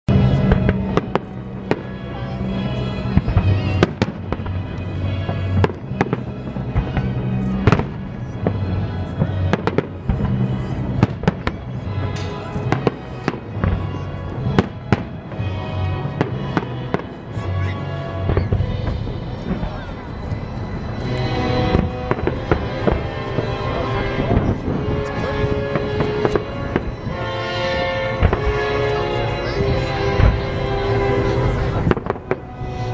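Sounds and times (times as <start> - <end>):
fireworks bursting: 0.1 - 32.9.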